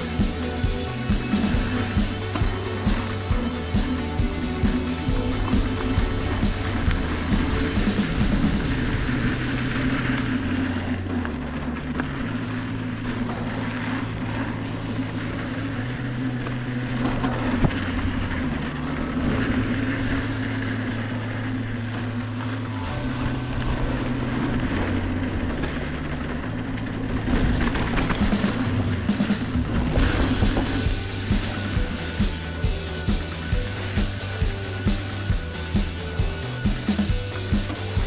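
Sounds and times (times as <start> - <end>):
held bass notes: 0.0 - 38.0
steady drone: 0.0 - 38.0.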